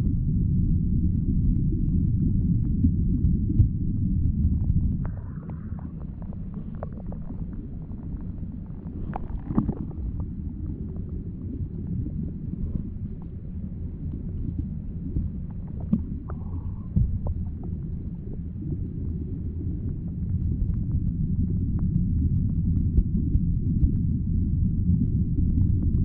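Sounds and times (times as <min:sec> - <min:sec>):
underwater rumble of moving water: 0:00.0 - 0:26.0.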